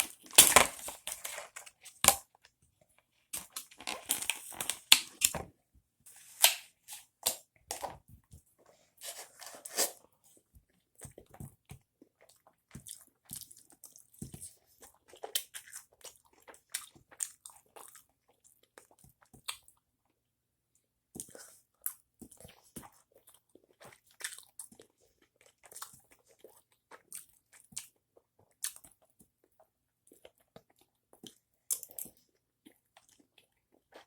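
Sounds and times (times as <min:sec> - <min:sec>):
person chewing food: 0:00.0 - 0:05.5, 0:06.1 - 0:19.8, 0:21.2 - 0:34.0.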